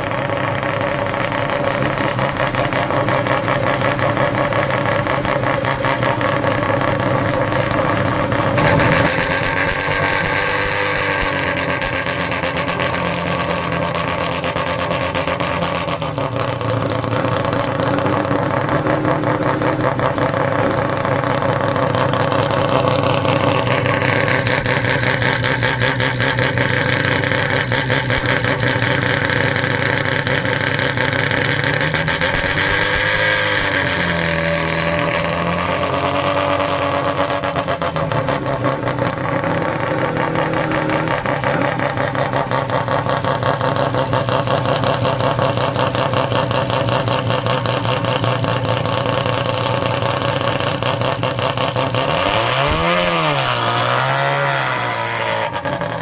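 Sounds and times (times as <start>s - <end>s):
rotary engine choppy exhaust: 0.0s - 56.0s.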